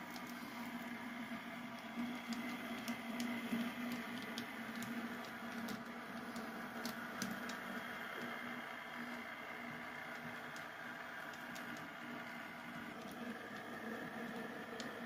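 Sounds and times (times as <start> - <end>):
model train motor hum: 0.0 - 15.0.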